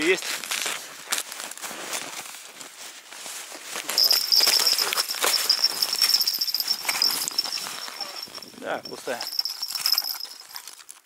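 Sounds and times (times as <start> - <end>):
crunching on snow and ice: 0.0 - 11.0.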